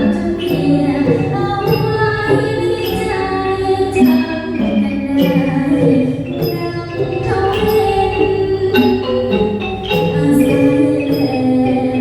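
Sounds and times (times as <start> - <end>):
instrumental ensemble: 0.0 - 12.0
person singing: 0.0 - 12.0
small cymbal strikes: 0.0 - 12.0.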